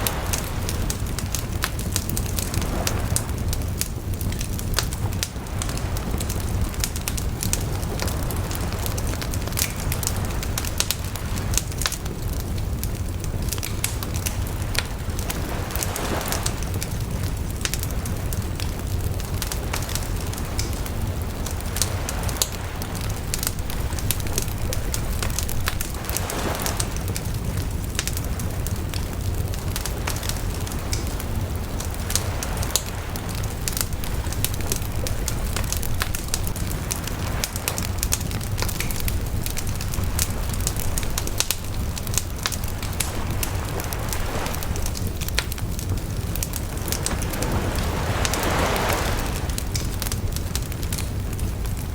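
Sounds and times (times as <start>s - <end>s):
bonfire crackling: 0.0s - 51.9s
burning wood popping: 0.0s - 51.9s
low rumble of flame: 0.0s - 51.9s.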